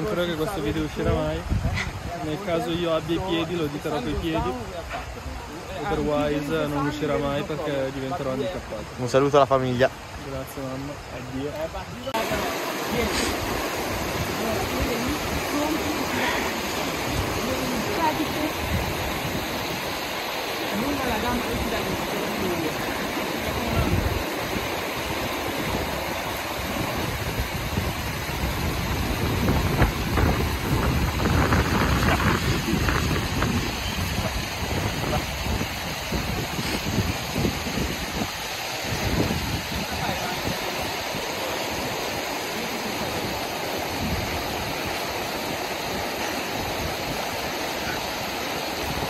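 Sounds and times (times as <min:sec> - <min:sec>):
wind rumbling on microphone: 0:00.0 - 0:07.6, 0:10.9 - 0:49.0
river water rushing: 0:00.0 - 0:49.0.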